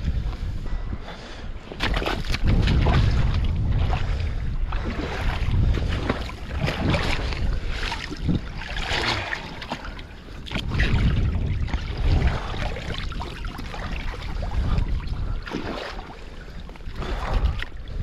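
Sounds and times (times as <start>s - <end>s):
wind buffeting microphone: 0.0s - 18.0s
water splashing and sloshing: 1.5s - 18.0s.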